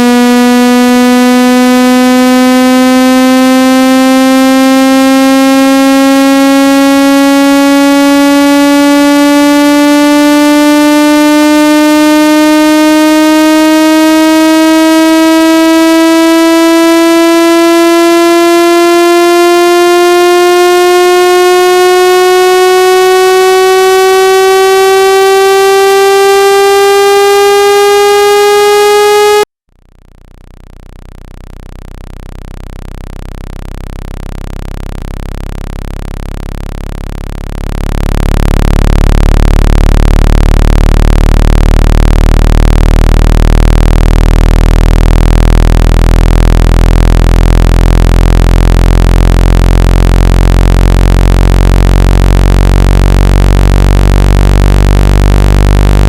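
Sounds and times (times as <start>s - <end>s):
loud rising synthesized tone: 0.0s - 29.5s, 34.5s - 56.0s
low buzzing tone: 0.0s - 56.0s.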